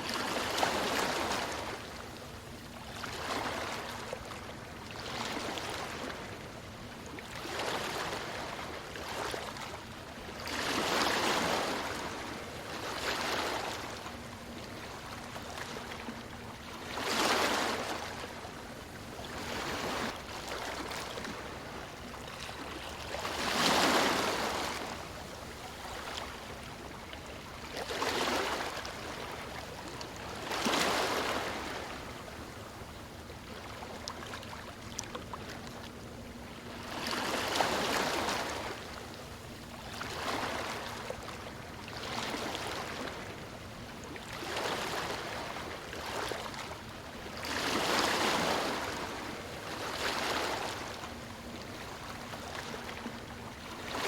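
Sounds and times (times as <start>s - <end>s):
waves breaking on a stony shore: 0.0s - 54.0s.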